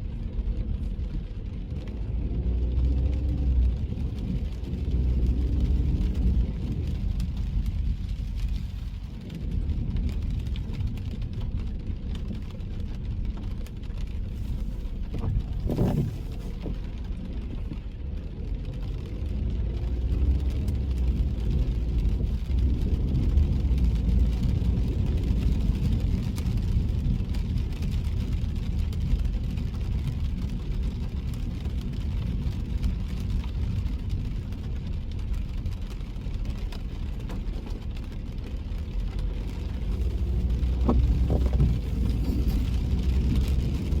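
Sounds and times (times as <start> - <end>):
car road and engine rumble: 0.0 - 44.0.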